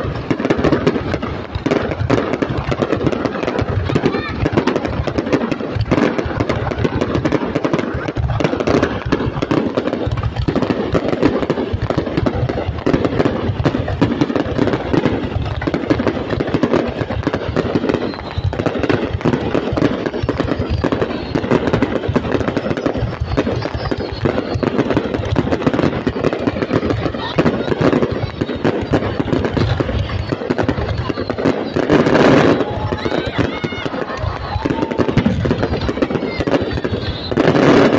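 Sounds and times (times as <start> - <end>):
fireworks crackling and banging: 0.0 - 37.9.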